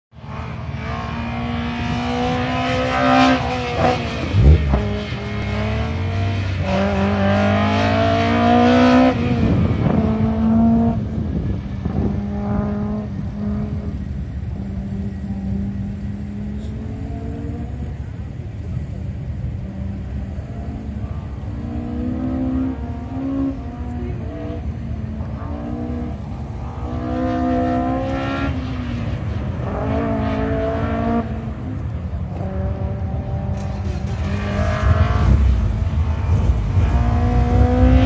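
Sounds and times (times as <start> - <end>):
car engine revving: 0.2 - 38.0.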